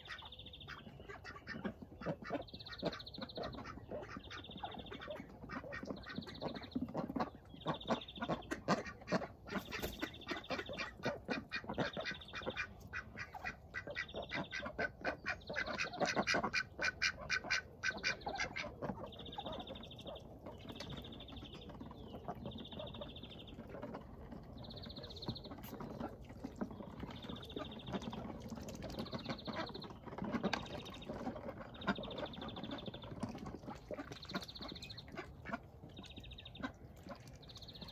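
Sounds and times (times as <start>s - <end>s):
ducks quacking: 0.0s - 37.9s.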